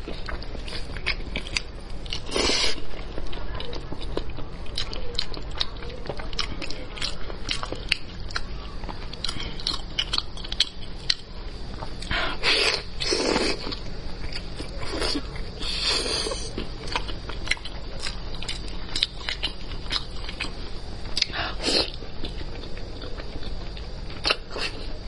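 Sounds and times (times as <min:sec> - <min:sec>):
person chewing: 0:00.0 - 0:25.0
steady low hum: 0:00.0 - 0:25.0.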